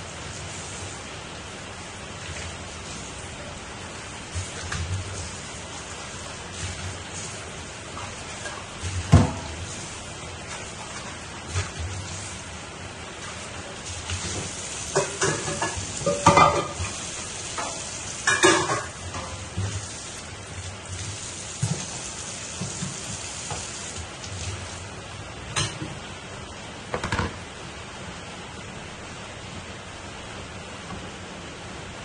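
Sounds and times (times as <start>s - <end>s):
broth bubbling at a boil: 0.0s - 25.7s.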